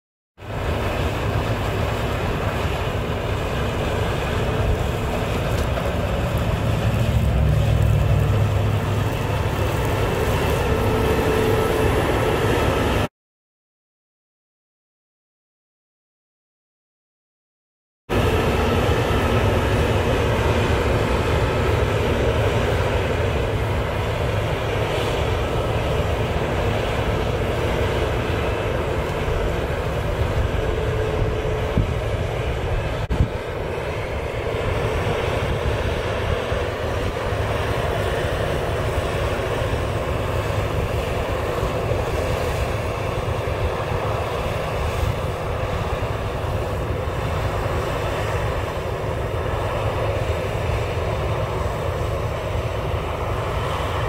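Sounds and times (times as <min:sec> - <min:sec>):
combine harvester engine drone: 0:00.4 - 0:13.1, 0:18.1 - 0:54.0.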